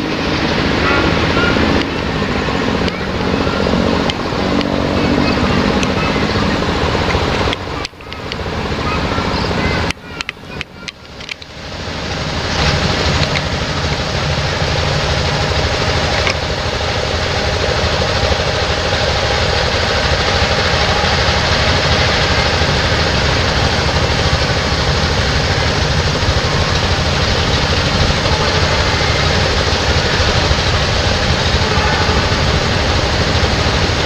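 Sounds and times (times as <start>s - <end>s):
heavy engine rumbling: 0.0s - 34.0s.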